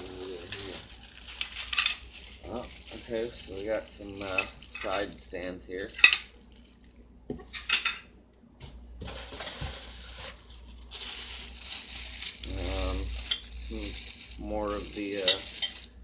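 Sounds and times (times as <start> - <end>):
plastic wrapping crinkling: 0.0 - 7.8, 9.0 - 16.0.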